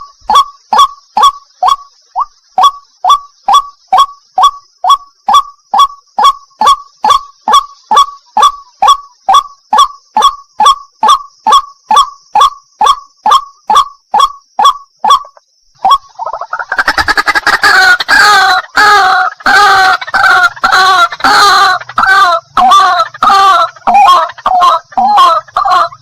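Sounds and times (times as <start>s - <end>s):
steady high hiss: 0.0s - 26.0s
waterhen calling: 0.0s - 26.0s.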